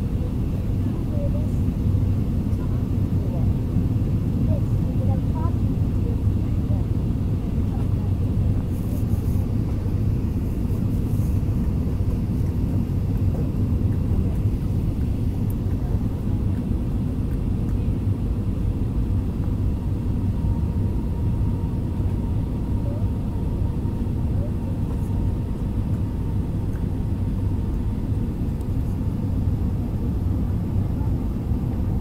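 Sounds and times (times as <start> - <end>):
jet engine rumble in cabin: 0.0 - 32.0.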